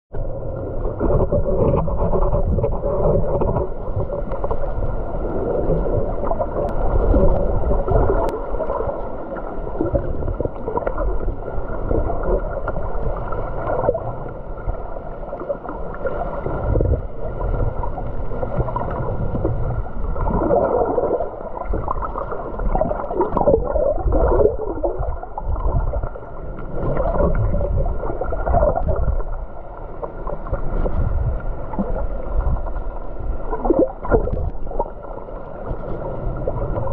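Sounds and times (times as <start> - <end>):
underwater water gurgling: 0.1 - 36.9.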